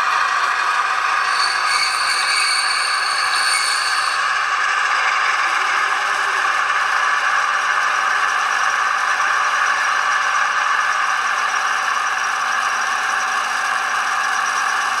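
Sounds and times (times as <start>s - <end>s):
model locomotive diesel engine sound: 0.0s - 15.0s.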